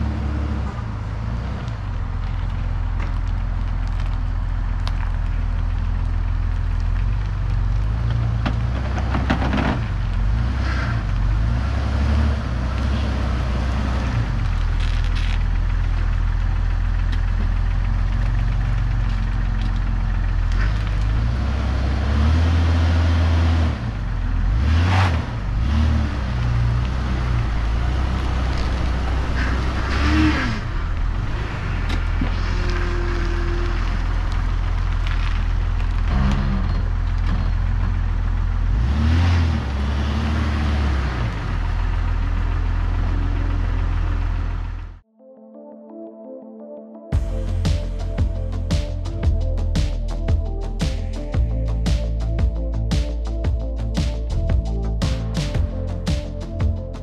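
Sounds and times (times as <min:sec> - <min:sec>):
car engine running: 0:00.0 - 0:45.0, 0:47.2 - 0:57.0.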